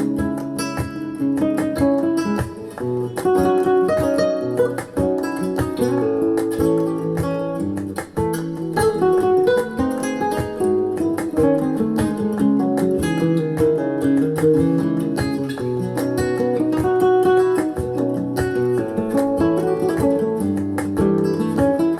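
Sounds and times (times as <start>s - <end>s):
acoustic guitar music from loudspeaker: 0.0s - 21.9s.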